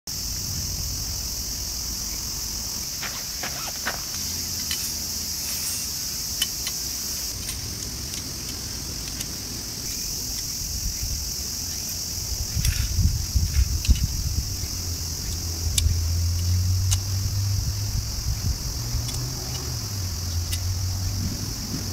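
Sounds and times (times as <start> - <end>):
insect chorus: 0.1 - 21.9.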